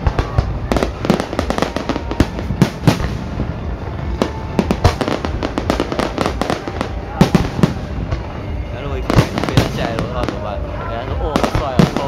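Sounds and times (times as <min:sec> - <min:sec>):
continuous low rumble: 0:00.0 - 0:12.0
fireworks bangs and crackles: 0:00.0 - 0:12.0
music playing: 0:00.0 - 0:12.0.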